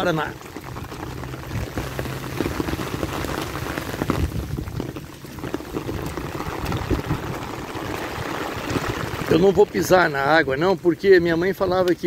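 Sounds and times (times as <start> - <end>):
small splashes: 0.0 - 10.2
rain on a paved street: 0.0 - 12.0
water flowing along gutter: 0.0 - 12.0.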